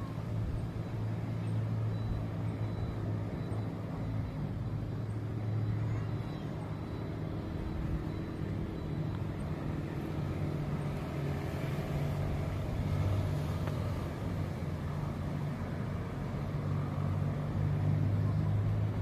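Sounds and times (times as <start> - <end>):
low hum of road traffic: 0.0 - 19.0.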